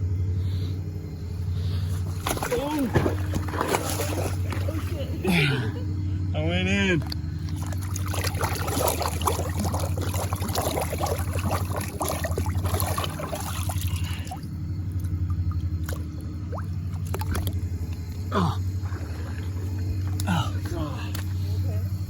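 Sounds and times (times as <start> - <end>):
steady low hum: 0.0 - 22.0
water splashing and trickling: 1.4 - 22.0.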